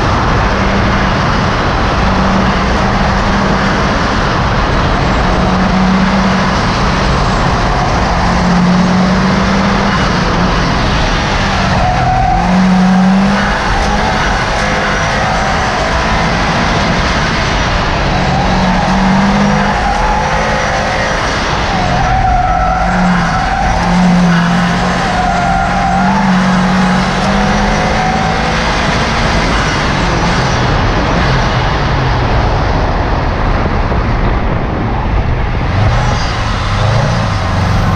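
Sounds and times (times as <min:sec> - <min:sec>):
car engine driven hard: 0:00.0 - 0:37.9
road and wind noise: 0:00.0 - 0:37.9.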